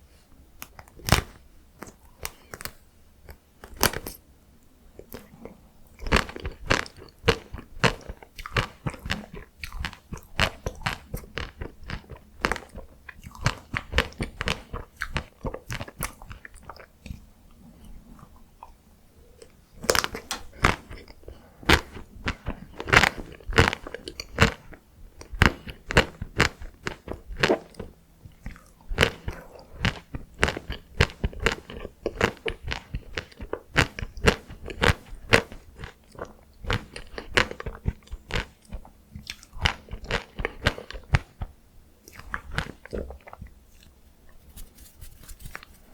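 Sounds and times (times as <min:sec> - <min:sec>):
crunchy ice cream chewing: 0:05.0 - 0:17.3, 0:19.4 - 0:44.0.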